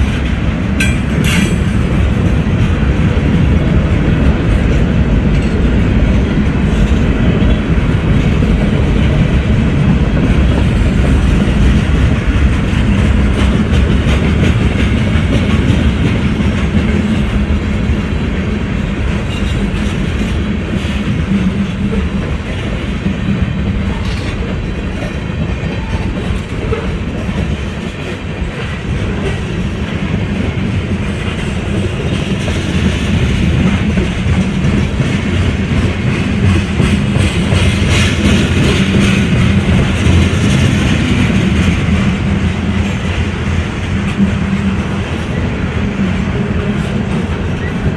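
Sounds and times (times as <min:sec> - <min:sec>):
railcars rumbling past: 0:00.0 - 0:47.9.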